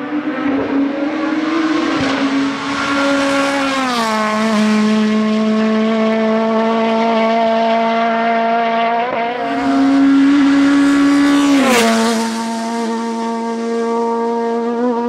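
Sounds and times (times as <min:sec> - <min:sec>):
race car engine revving high: 0:00.0 - 0:15.0.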